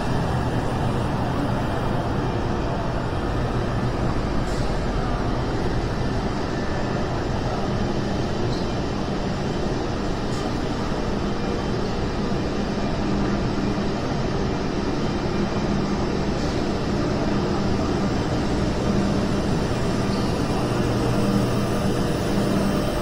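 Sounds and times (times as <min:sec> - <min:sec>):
low rumbling background noise: 0:00.0 - 0:23.0.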